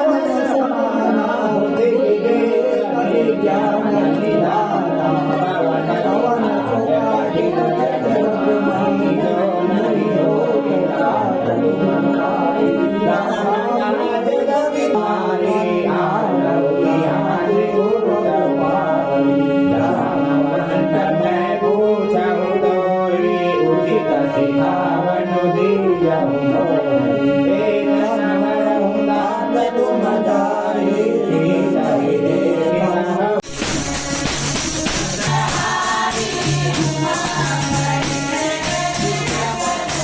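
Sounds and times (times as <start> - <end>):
instrumental accompaniment: 0.0 - 40.0
voices singing devotional song: 0.0 - 40.0.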